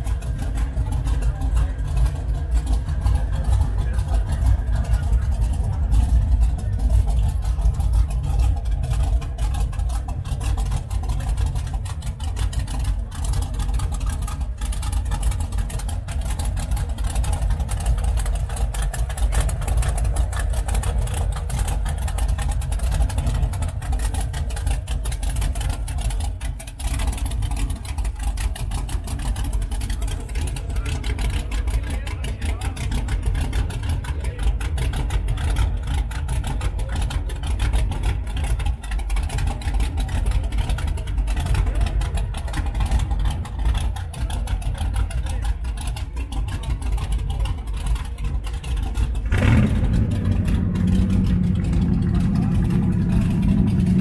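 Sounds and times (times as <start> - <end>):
car engine idling loudly: 0.0 - 54.0.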